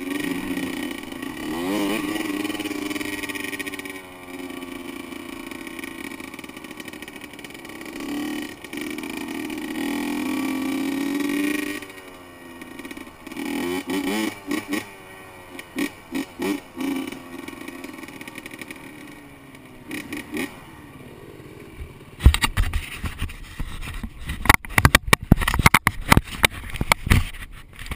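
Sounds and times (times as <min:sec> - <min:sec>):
dirt bike engine running: 0:00.0 - 0:27.9.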